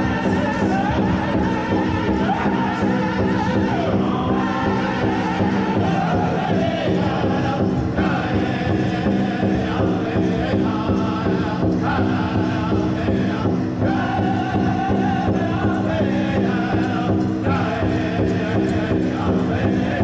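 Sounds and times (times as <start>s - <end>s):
large hide drum beating: 0.0s - 20.0s
men singing a chant in unison: 0.0s - 20.0s.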